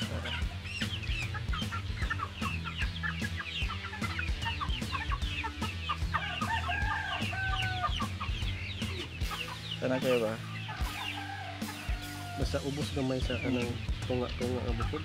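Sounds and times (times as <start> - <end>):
chickens clucking and squawking: 0.0 - 15.0
music with steady beat: 0.0 - 15.0.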